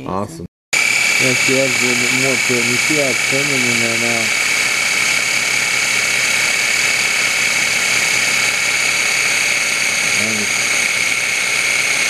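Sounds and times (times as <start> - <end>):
food processor motor whining: 0.8 - 12.0.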